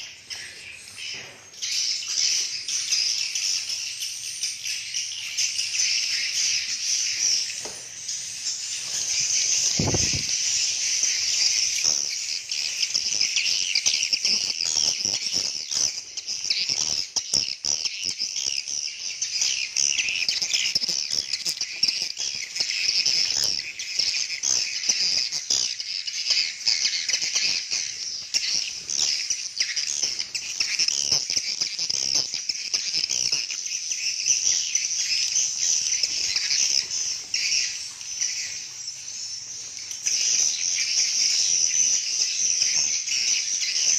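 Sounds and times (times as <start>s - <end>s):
birds twittering chorus: 0.0s - 43.9s.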